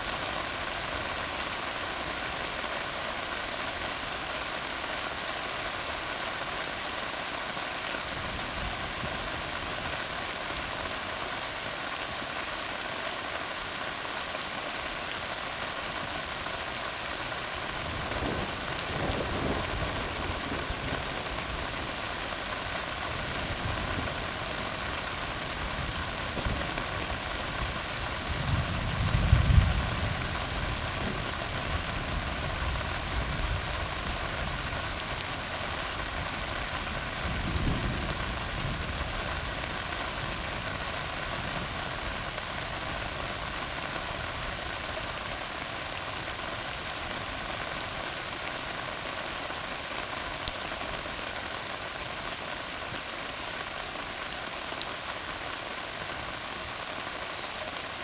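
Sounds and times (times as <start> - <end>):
rain falling on road: 0.0 - 58.0.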